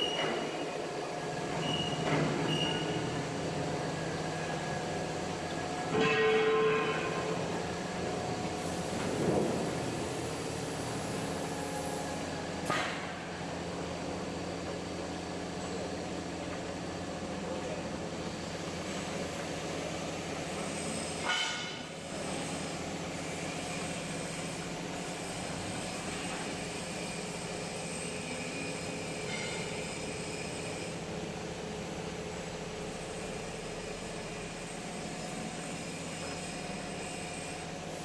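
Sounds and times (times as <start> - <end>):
machine humming and rattling: 0.0 - 38.0.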